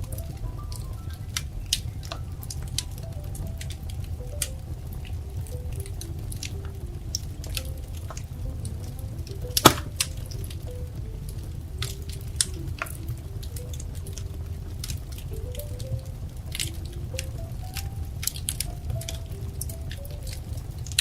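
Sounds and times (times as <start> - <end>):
low steady rumble: 0.0 - 21.0
soft faint music: 0.0 - 21.0
wood fire crackling: 0.0 - 21.0.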